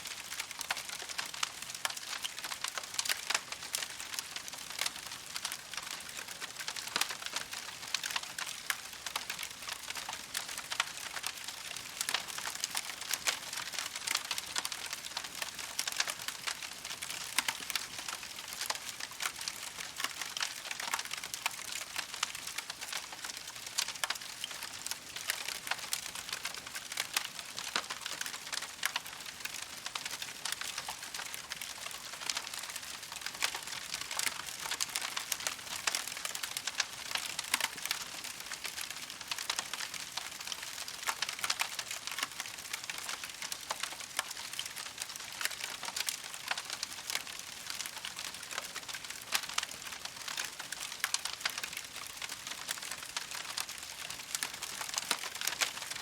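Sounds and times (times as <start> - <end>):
campfire crackling: 0.1 - 56.0.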